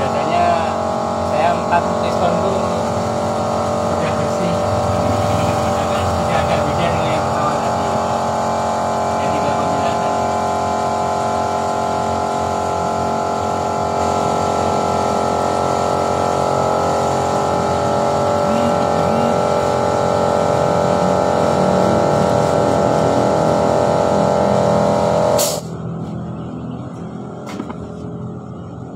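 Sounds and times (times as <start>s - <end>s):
engine mechanical running noise: 0.0s - 28.9s.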